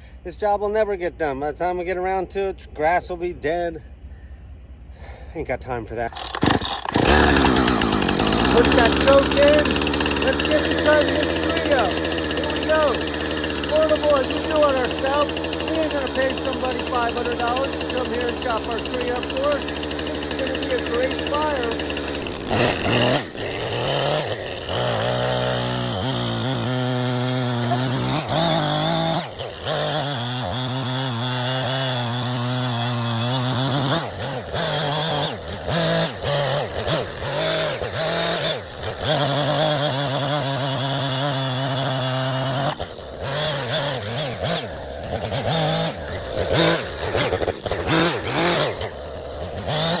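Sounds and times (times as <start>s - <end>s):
chainsaw cutting wood: 6.1s - 50.0s.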